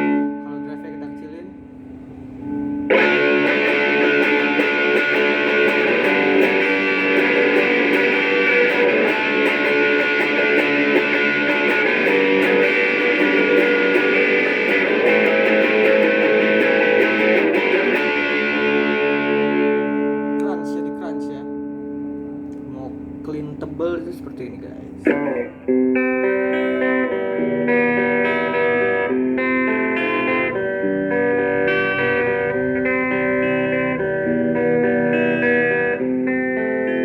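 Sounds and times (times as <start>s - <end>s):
electric guitar strumming chords: 0.0s - 37.0s.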